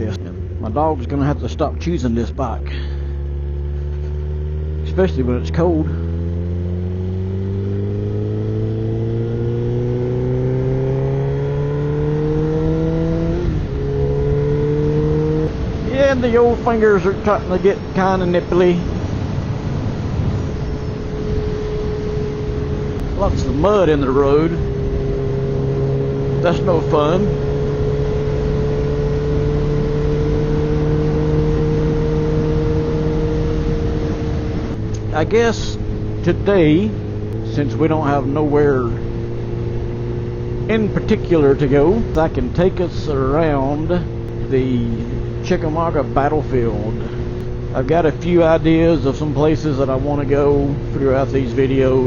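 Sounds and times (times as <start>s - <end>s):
motorcycle engine accelerating: 0.0s - 52.0s
wind noise: 7.0s - 52.0s.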